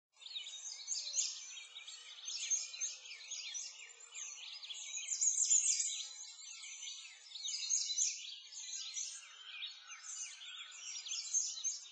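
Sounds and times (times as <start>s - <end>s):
songbirds chirping: 0.2s - 11.9s.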